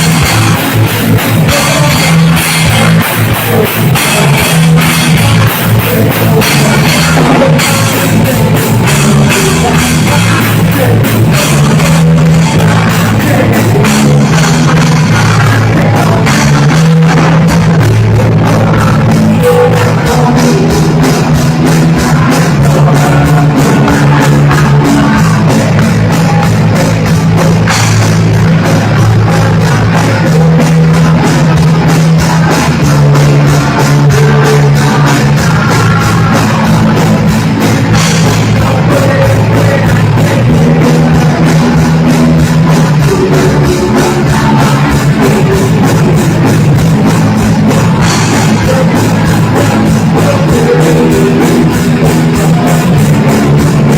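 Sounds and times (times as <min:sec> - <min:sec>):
punk rock music: 0:00.0 - 0:53.9.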